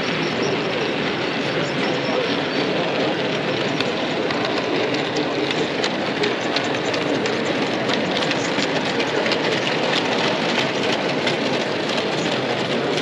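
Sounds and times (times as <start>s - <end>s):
model train wheels clicking on track: 0.0s - 13.0s
steady background noise: 0.0s - 13.0s.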